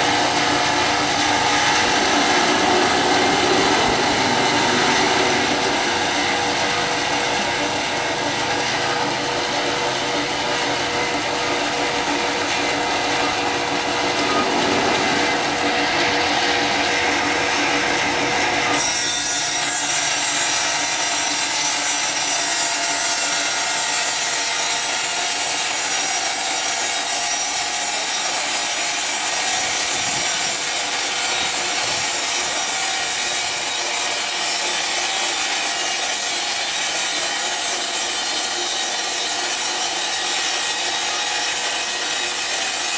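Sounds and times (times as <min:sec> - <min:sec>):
saw blade cutting hardwood: 0:00.0 - 0:42.9.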